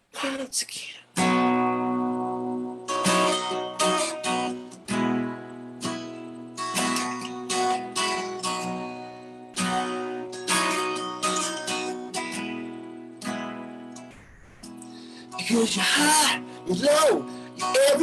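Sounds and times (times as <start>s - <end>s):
acoustic guitar strumming: 1.2s - 18.0s.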